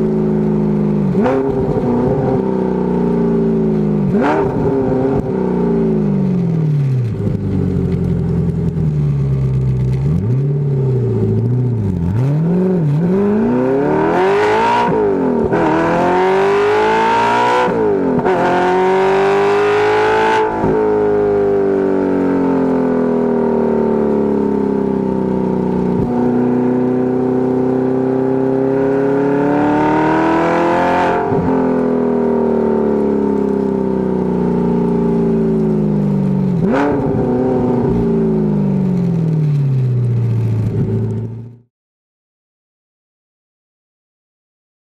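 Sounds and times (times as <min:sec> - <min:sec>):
car engine revving: 0:00.0 - 0:41.6.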